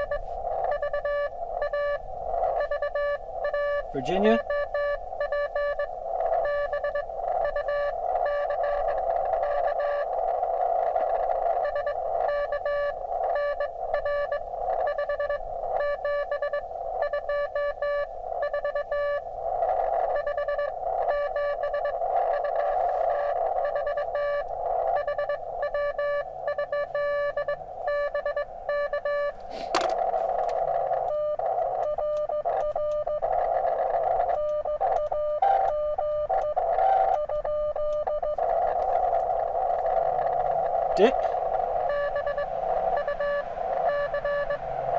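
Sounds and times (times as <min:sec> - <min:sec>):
morse code tone: 0:00.0 - 0:44.9
receiver hiss: 0:00.0 - 0:44.9.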